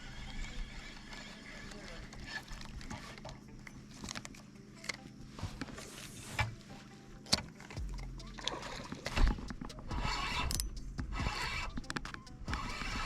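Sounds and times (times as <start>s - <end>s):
low steady hum: 0.0s - 13.0s
faint clicks and rustles: 0.4s - 13.0s.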